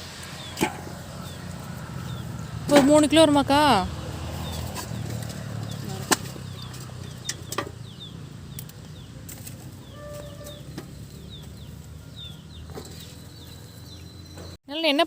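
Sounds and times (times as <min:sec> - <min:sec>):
small birds chirping: 0:00.2 - 0:14.9.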